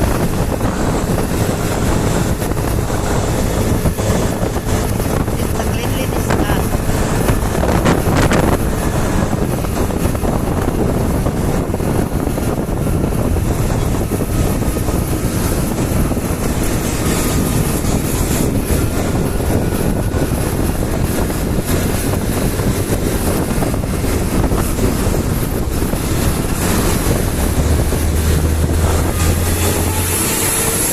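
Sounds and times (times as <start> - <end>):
motorcycle engine running: 0.0 - 30.9
wind noise on microphone: 0.0 - 30.9.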